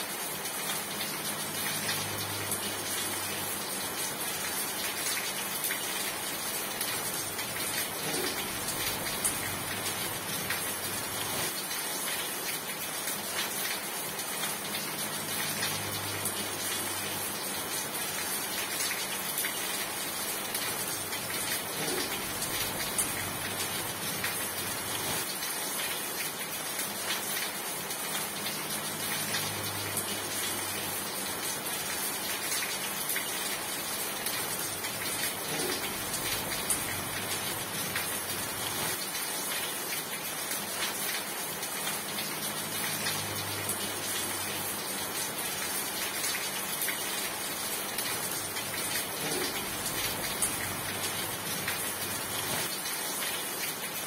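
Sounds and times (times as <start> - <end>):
raindrops ticking on a surface: 0.0 - 54.0
steady rain: 0.0 - 54.0.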